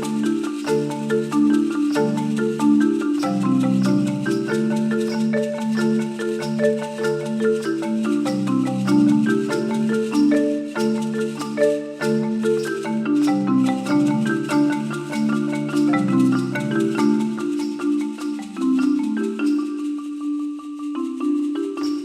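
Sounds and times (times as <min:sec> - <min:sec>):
marimba played with mallets: 0:00.0 - 0:22.0.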